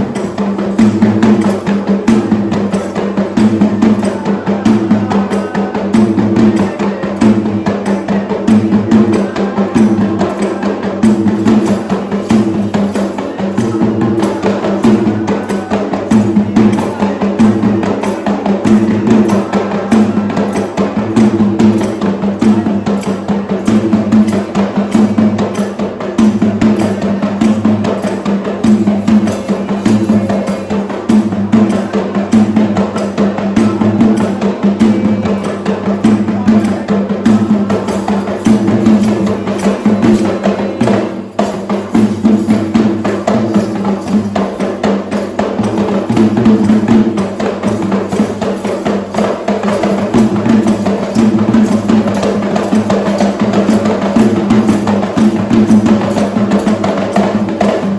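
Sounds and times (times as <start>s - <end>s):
drum ensemble playing: 0.0s - 57.9s.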